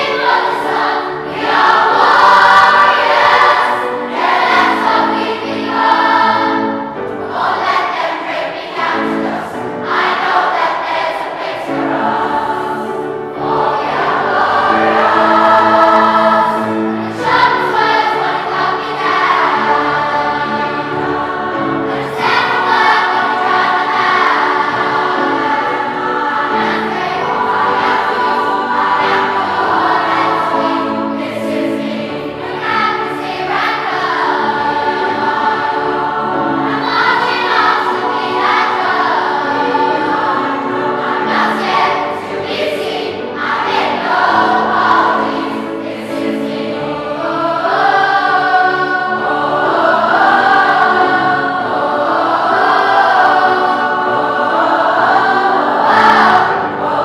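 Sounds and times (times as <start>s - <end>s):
choir singing: 0.0s - 57.0s
piano accompaniment: 0.0s - 57.0s.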